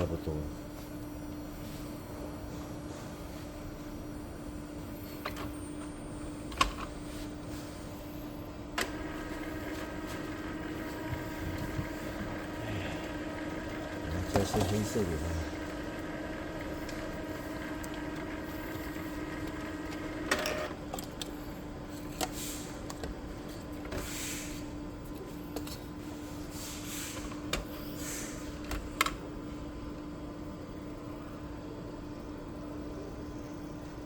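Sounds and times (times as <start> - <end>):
printer mechanism hum: 0.0 - 34.0.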